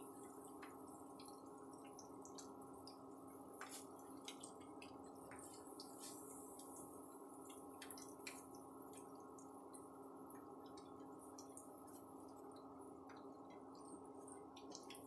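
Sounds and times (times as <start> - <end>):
frying sizzle with pops: 0.0 - 15.0.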